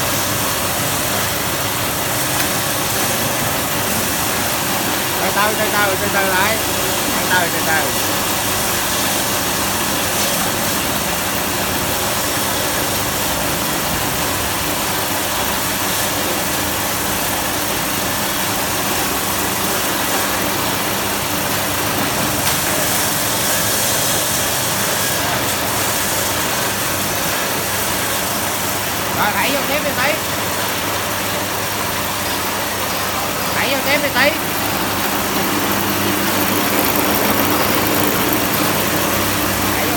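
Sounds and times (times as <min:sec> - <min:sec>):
bait cutting machine running: 0:00.0 - 0:39.9.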